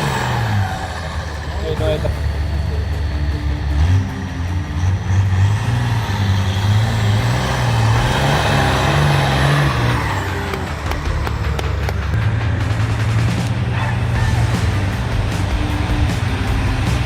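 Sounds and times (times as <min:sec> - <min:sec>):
truck engine running under load: 0:00.0 - 0:17.0.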